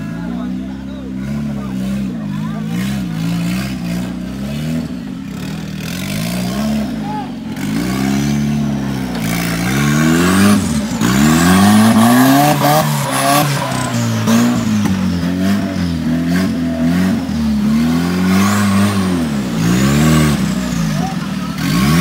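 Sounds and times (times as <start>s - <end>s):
car engine revving: 0.0s - 22.0s
high engine whine: 0.0s - 22.0s.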